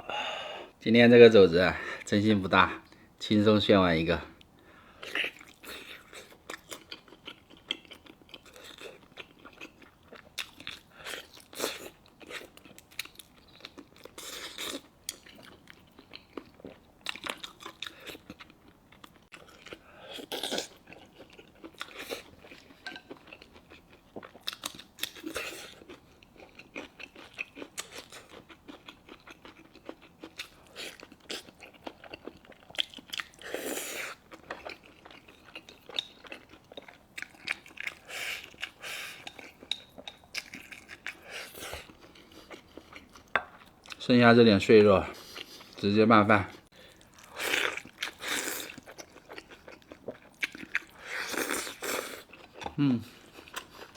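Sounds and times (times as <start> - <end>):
person chewing and smacking: 5.0 - 44.0, 46.5 - 53.9.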